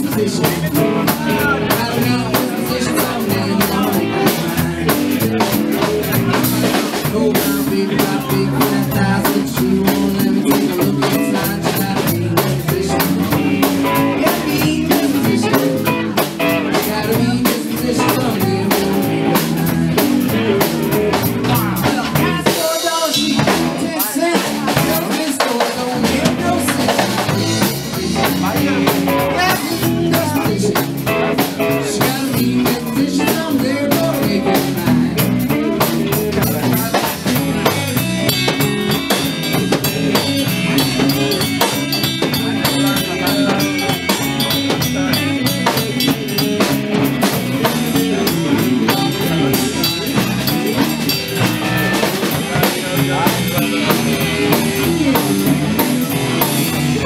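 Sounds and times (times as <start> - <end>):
drum kit steady beat: 0.0 - 57.0
electric guitars: 0.0 - 57.0.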